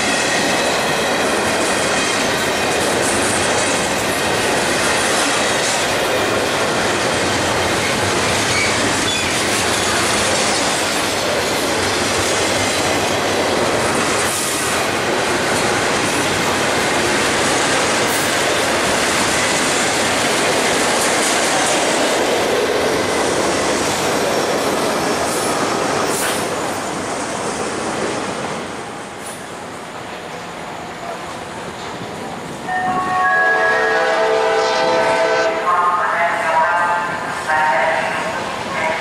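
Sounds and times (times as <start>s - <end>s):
freight train wheels rumbling on rail: 0.0s - 39.0s.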